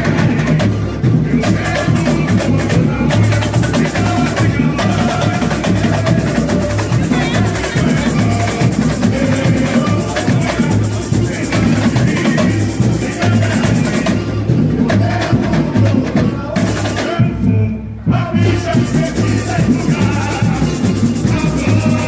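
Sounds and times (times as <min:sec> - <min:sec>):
snare and shaker percussion: 0:00.0 - 0:17.4, 0:18.2 - 0:22.0
people singing: 0:00.0 - 0:22.0
surdo bass drum beat: 0:00.0 - 0:22.0.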